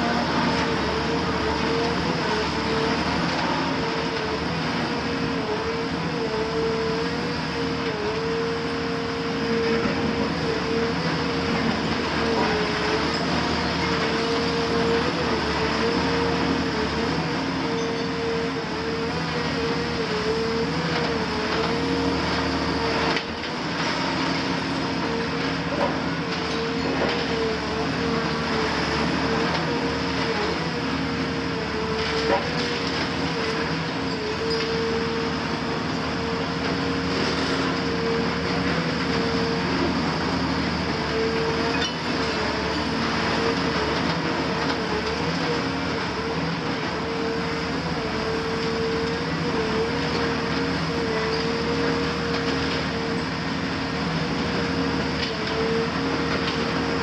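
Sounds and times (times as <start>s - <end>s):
diesel engine running under load: 0.0s - 57.0s
hydraulic whine: 8.1s - 57.0s.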